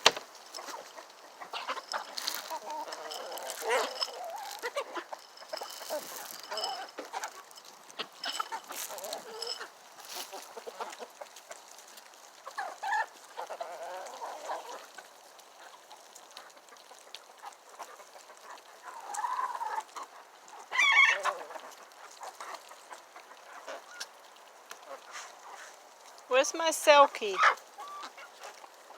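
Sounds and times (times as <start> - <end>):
chickens clucking: 0.0 - 11.7, 12.4 - 25.7, 27.2 - 28.9.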